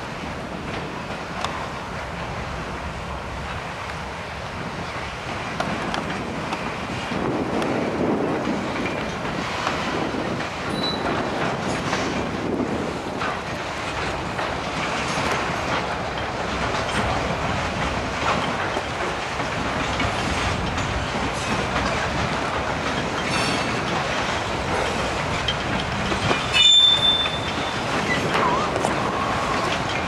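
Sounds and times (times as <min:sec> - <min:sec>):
railroad cars rolling on track: 0:00.0 - 0:30.0.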